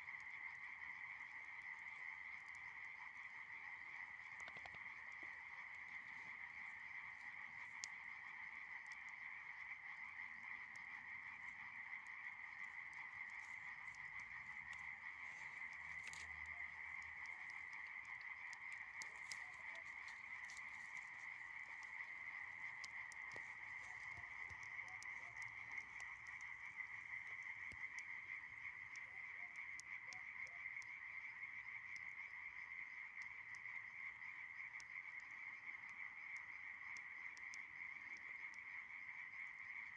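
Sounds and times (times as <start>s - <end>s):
chorus of small calling animals: 0.0s - 39.9s.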